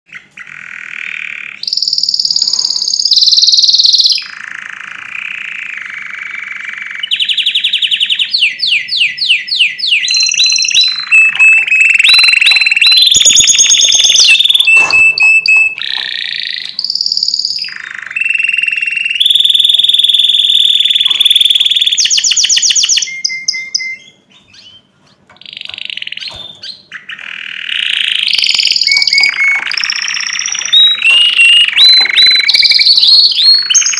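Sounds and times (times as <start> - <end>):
canary singing: 0.1 - 33.9.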